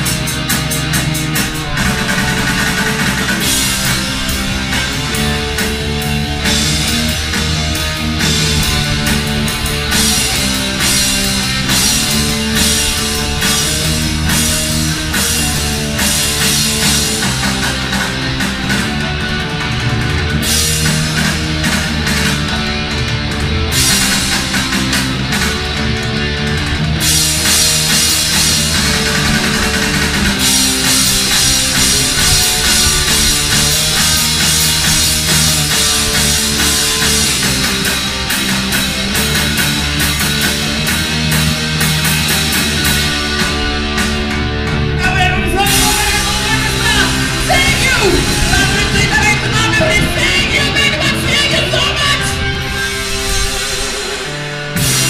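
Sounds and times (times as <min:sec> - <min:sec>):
bass guitar: 0:00.0 - 0:55.0
bending melody line: 0:00.0 - 0:55.0
drum kit: 0:00.0 - 0:55.0
electric guitars: 0:00.0 - 0:55.0.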